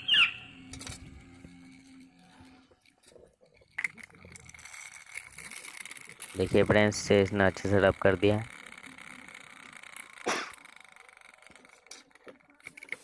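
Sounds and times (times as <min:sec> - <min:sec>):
small motor whine: 0:00.0 - 0:13.0.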